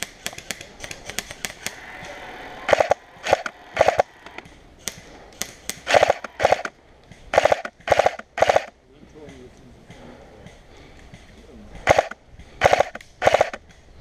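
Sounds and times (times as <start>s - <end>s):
airsoft guns firing: 0.0s - 1.8s, 2.6s - 13.8s.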